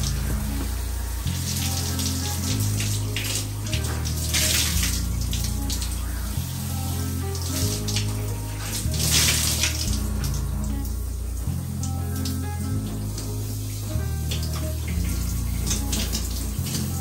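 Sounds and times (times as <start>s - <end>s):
background music with deep bass: 0.0s - 17.0s
shower spray hissing: 0.0s - 17.0s.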